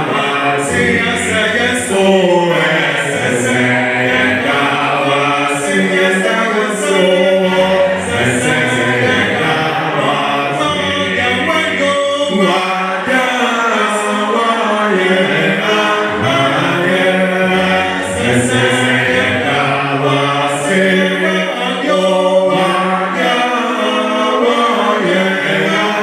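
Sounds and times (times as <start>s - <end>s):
group singing a hymn a cappella: 0.0s - 26.0s.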